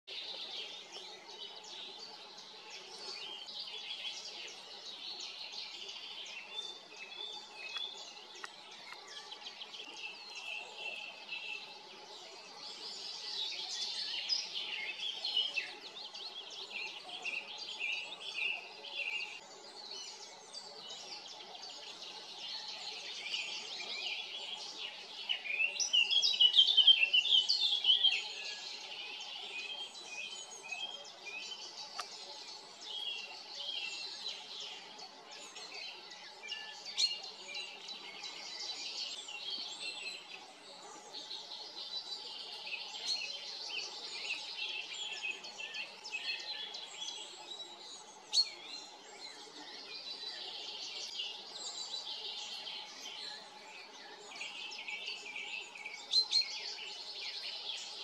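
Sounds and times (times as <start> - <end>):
small birds chirping chorus: 0.0 - 58.0.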